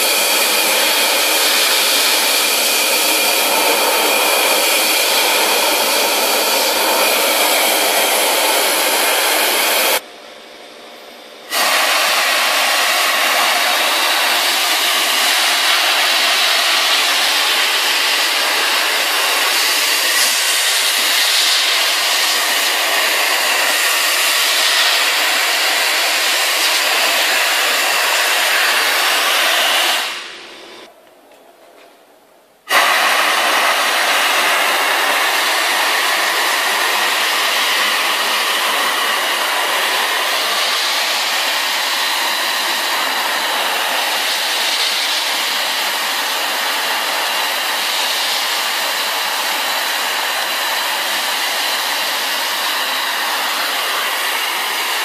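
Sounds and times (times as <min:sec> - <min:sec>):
vacuum cleaner hissing: 0:00.0 - 0:30.9, 0:32.7 - 0:55.0.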